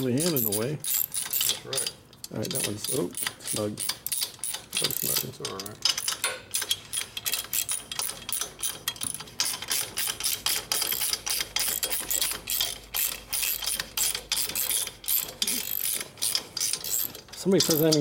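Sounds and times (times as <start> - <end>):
ratchet wrench clicking: 0.0 - 18.0.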